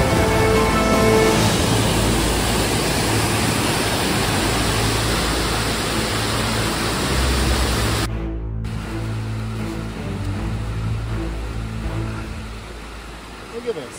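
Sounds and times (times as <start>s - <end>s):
water rushing over boulders: 0.0s - 8.1s, 8.7s - 13.9s.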